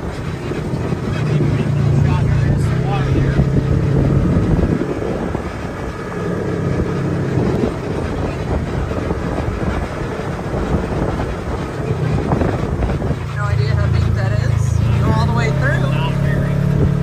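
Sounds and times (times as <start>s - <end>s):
utility vehicle engine running: 0.0s - 17.0s
wind noise on microphone: 0.0s - 17.0s.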